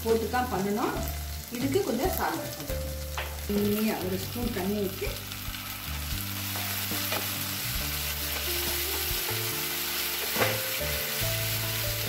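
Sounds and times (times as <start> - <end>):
sizzling in a frying pan: 0.0 - 12.0.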